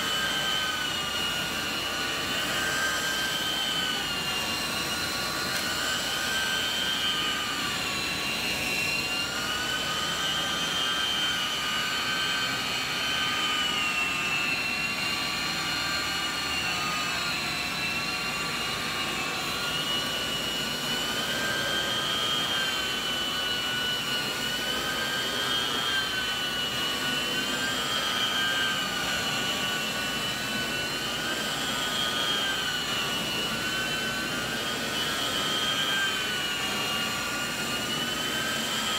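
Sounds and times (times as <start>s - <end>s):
carpet cleaner vacuum whining: 0.0s - 38.9s.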